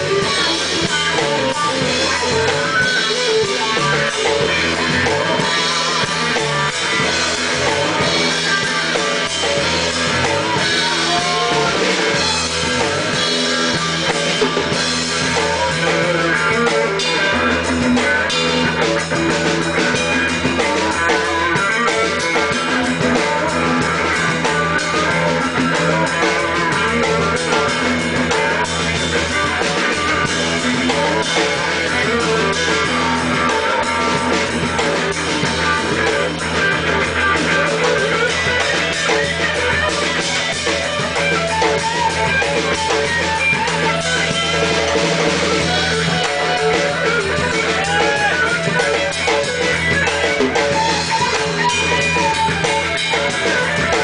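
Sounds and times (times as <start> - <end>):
drum kit: 0.0 - 54.0
electric guitar playing: 0.0 - 54.0.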